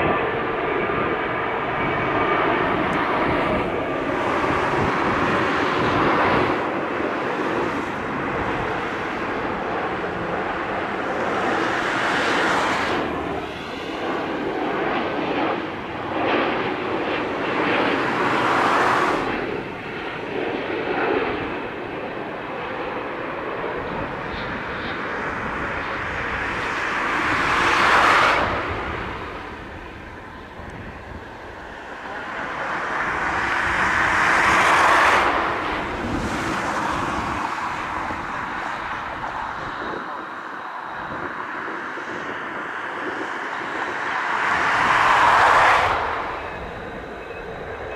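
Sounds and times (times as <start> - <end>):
jet airliner roar: 0.0 - 47.9.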